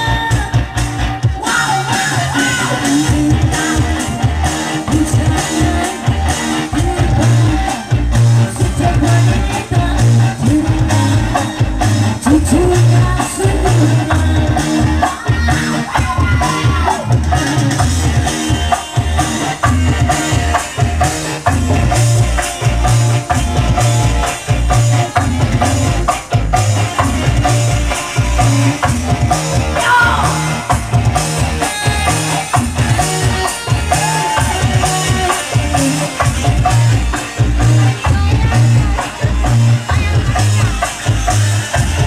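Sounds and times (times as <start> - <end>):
music with steady drum beat: 0.0 - 42.0.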